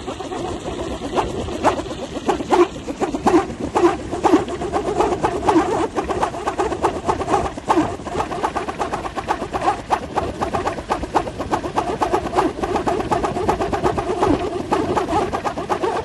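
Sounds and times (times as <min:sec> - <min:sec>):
wooden wind propeller whirring: 0:00.0 - 0:16.0.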